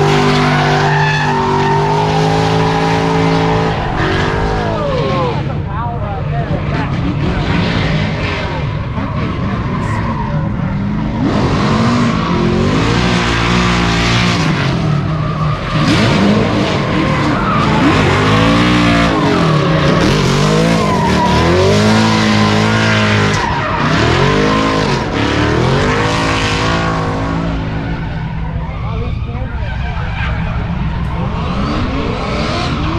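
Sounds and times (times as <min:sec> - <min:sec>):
car engine revving: 0:00.0 - 0:32.9
tires skidding and squealing: 0:00.0 - 0:32.9.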